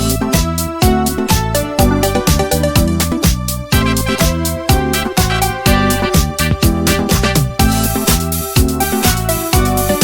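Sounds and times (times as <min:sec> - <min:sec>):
dance music with steady beat: 0:00.0 - 0:10.0.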